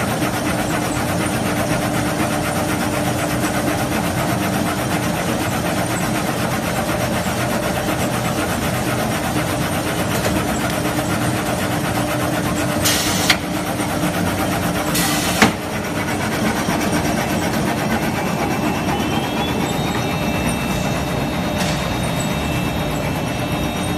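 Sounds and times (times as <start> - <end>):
low machine hum: 0.0 - 23.9
weaving machine clattering: 0.0 - 23.9.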